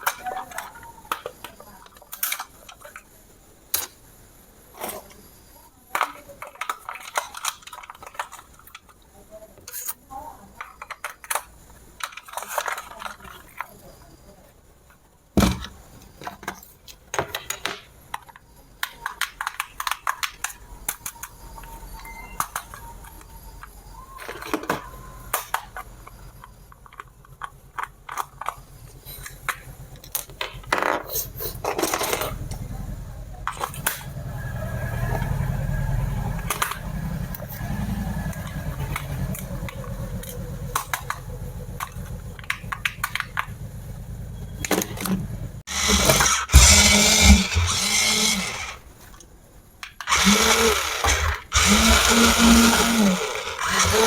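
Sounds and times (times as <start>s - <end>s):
toy motors and gears whirring: 0.0s - 43.6s, 44.3s - 49.2s, 49.9s - 54.0s.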